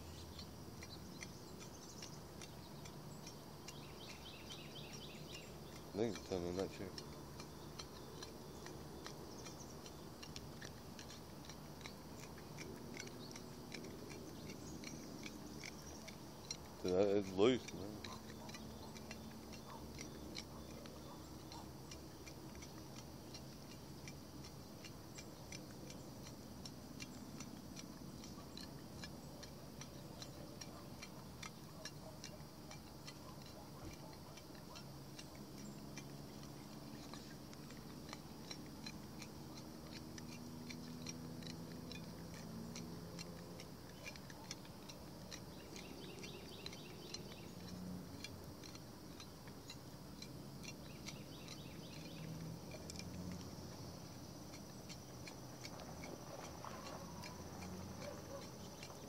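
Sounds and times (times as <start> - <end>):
faint steady ticking: 0.0 - 59.0.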